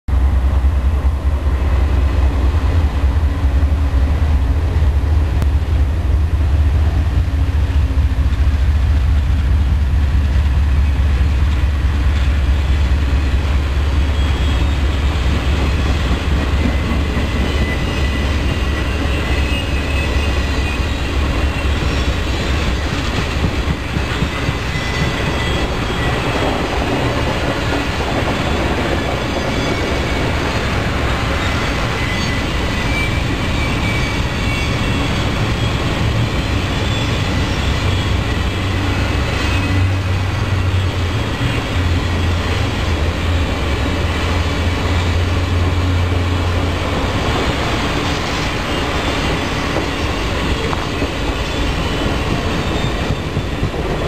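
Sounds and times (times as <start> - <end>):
diesel locomotive engine rumble: 0.1 - 54.0
wheels squealing on rails: 1.3 - 54.0
train wheels clattering: 6.6 - 54.0.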